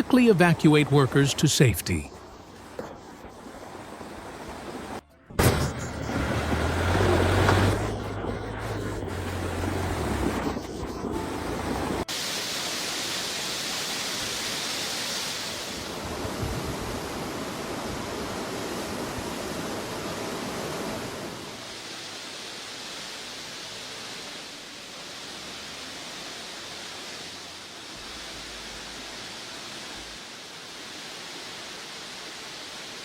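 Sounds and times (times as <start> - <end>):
rushing water hiss: 0.0 - 5.0, 6.4 - 33.0.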